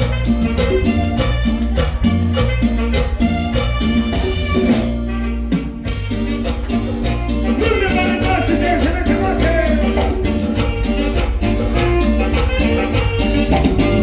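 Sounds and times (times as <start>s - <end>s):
latin dance music: 0.0s - 14.0s.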